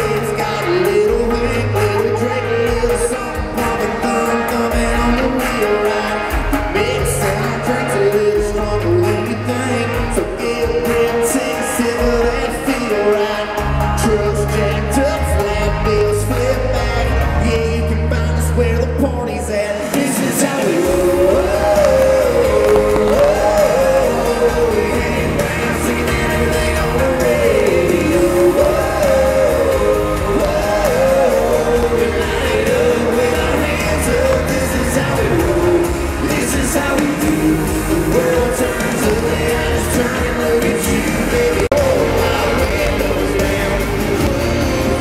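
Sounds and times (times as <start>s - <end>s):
drums: 0.0s - 45.0s
electric guitars: 0.0s - 45.0s
lead singer: 0.0s - 45.0s.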